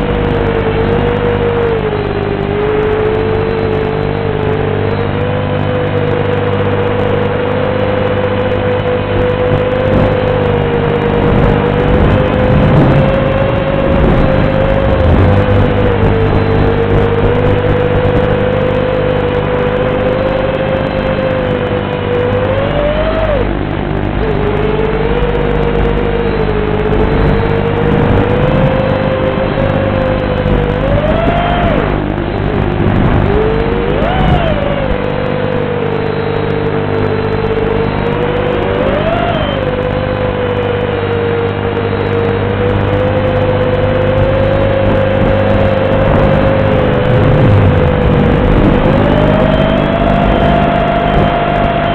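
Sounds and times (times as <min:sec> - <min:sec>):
quadcopter motors whining: 0:00.0 - 0:51.9.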